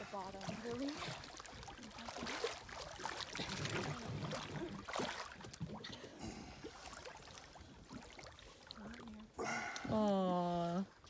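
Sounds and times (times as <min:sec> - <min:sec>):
water lapping around dock: 0:00.0 - 0:11.0.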